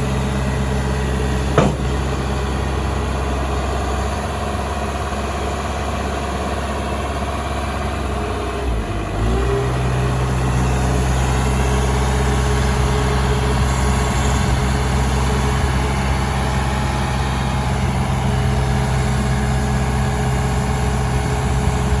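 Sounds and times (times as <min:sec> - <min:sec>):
backhoe diesel engine running: 0:00.0 - 0:22.0.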